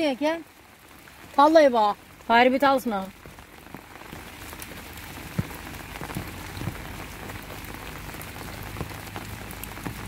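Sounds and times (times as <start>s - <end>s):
heavy rain on leaves and ground: 0.0s - 10.0s
sharp taps of raindrops: 0.0s - 10.0s.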